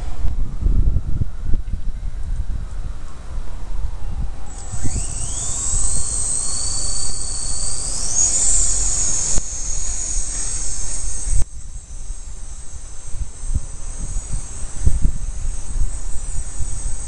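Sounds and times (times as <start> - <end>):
low wind rumble: 0.0 - 17.0
rc helicopter motor whine: 2.2 - 17.0.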